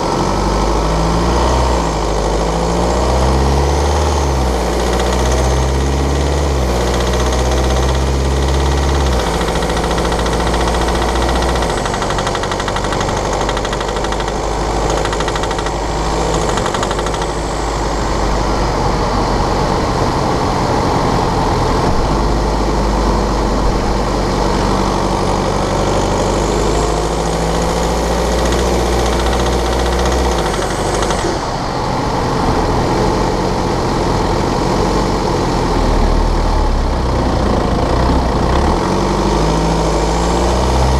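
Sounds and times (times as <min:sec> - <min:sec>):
diesel engine rattling and ticking: 0:00.0 - 0:40.9.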